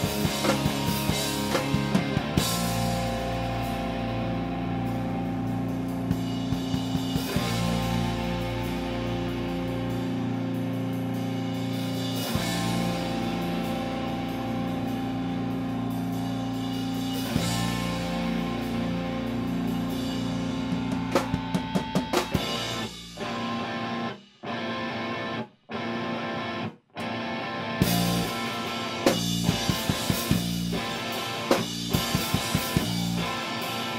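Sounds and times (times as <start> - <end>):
rock music with drums and guitar: 0.0 - 33.9.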